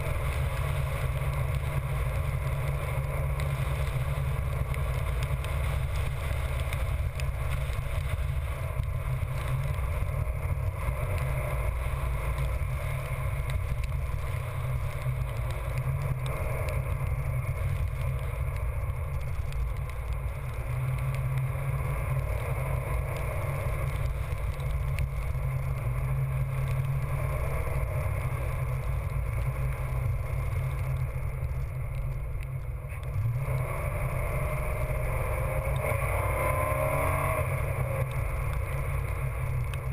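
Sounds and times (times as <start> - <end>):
car driving at speed: 0.0 - 39.9
wind noise: 0.0 - 39.9.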